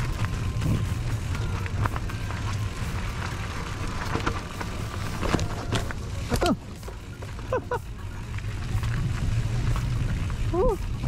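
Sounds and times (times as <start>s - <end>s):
motorcycle engine rumble: 0.0s - 11.0s.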